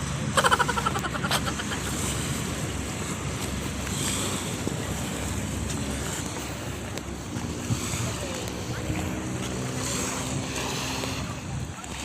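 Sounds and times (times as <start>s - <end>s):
sea waves washing: 0.0s - 12.0s
wind rumbling on microphone: 1.5s - 12.0s.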